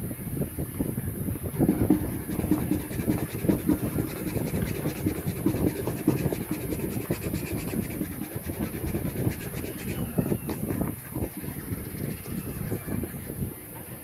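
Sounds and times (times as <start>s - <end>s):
eraser rubbing on leather: 1.6s - 13.3s.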